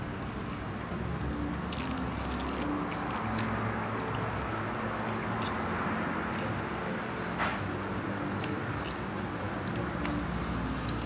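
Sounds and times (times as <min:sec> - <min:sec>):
steady background noise: 0:00.0 - 0:11.0
person chewing: 0:00.2 - 0:11.0.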